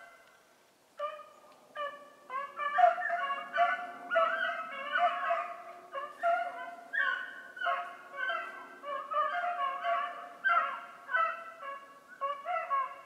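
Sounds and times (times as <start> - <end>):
beagles baying: 1.0 - 13.0.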